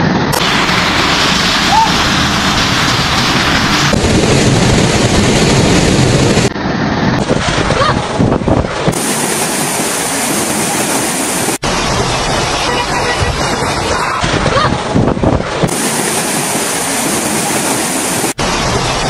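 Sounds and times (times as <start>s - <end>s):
wind buffeting microphone: 0.0s - 19.0s
floodwater rushing: 0.3s - 19.0s.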